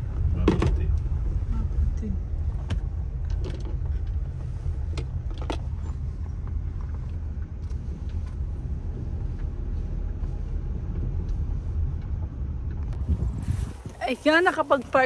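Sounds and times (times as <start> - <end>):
car rumbling on dirt track: 0.0 - 14.0.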